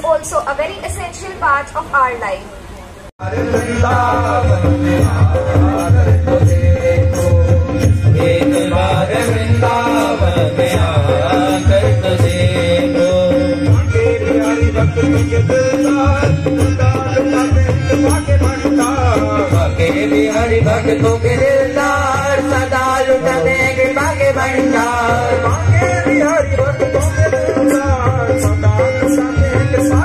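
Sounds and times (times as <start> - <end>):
pulsing drum beat: 3.2 - 30.0.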